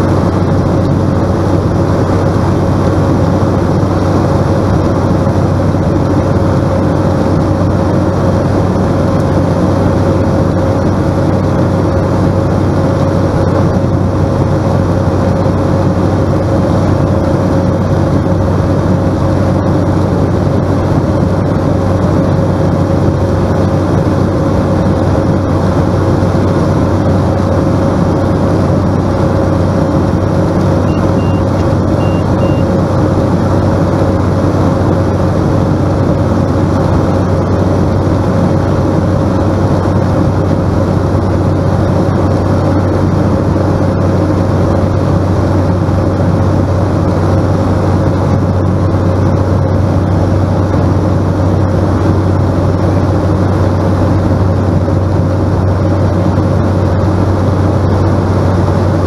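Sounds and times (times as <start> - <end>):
steady engine whine: 0.0 - 59.0
turboprop engine droning: 0.0 - 59.0.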